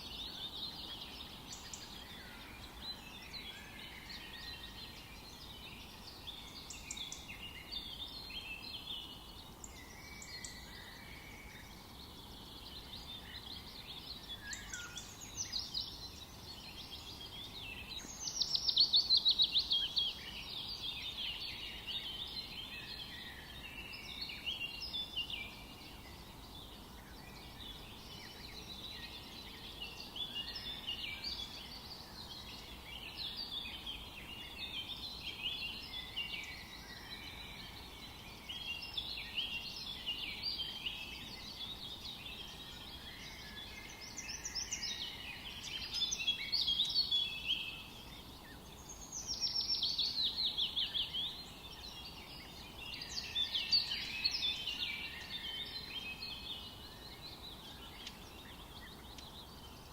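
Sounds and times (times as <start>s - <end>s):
faint steady hiss: 0.0s - 59.9s
songbirds singing and calling: 0.0s - 59.9s.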